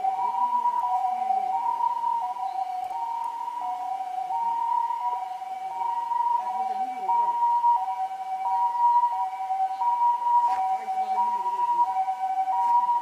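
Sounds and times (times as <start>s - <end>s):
two-tone ambulance siren: 0.0s - 13.0s.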